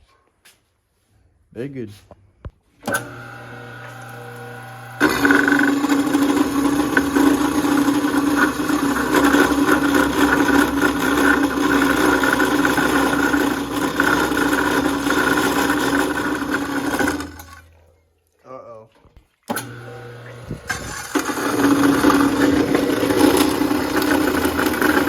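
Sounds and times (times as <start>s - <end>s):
power tool cutting steel: 2.8s - 17.7s, 19.5s - 25.0s.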